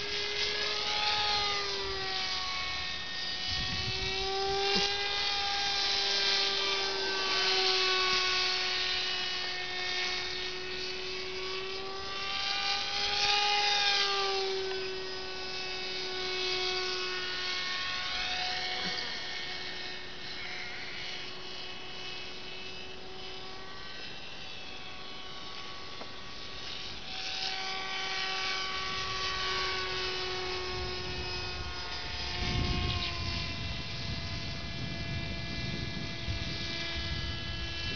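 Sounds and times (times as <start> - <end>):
model plane motor buzzing whine: 0.0 - 37.9.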